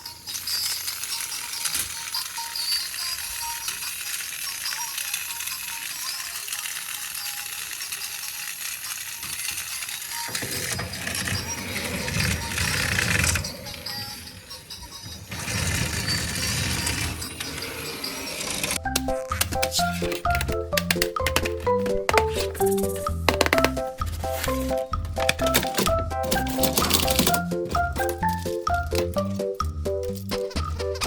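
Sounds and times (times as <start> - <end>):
music: 0.0 - 31.0
plastic toy clicking and rattling: 0.0 - 31.0.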